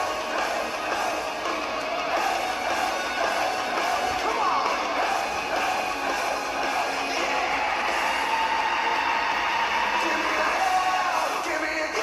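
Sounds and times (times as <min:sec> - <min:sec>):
arena crowd noise: 0:00.0 - 0:12.0.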